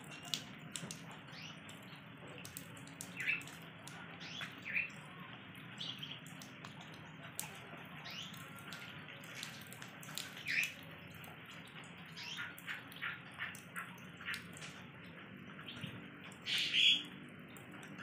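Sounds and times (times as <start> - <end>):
water drips and plinks: 0.0 - 18.0
water trickling: 0.0 - 18.0.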